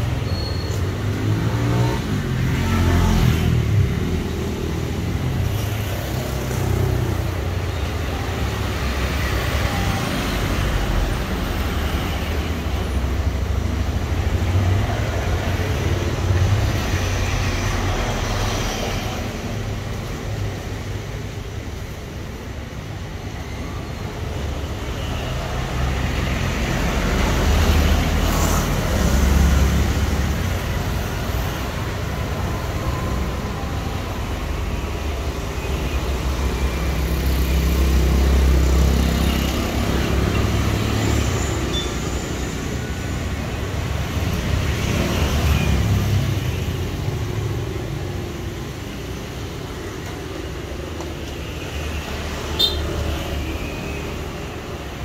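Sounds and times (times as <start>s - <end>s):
road traffic rumbling: 0.0s - 55.0s.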